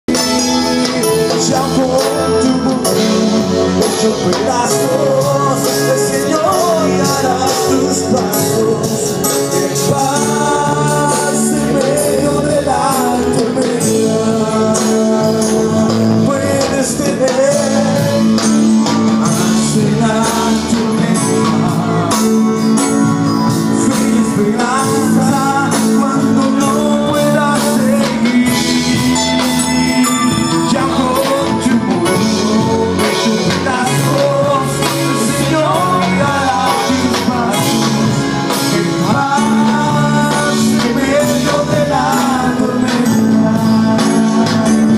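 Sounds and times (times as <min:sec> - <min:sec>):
instrumental accompaniment: 0:00.1 - 0:44.9
person singing: 0:00.1 - 0:44.9
steady percussion beat: 0:00.1 - 0:44.9.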